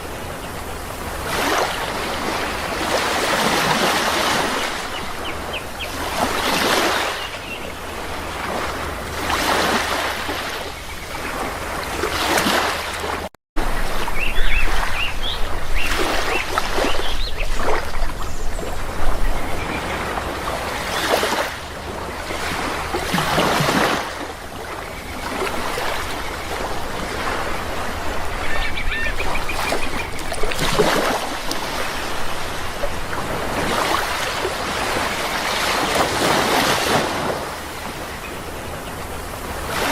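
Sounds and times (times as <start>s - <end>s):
sea waves breaking: 0.0s - 39.9s
waterbirds calling: 0.0s - 39.9s.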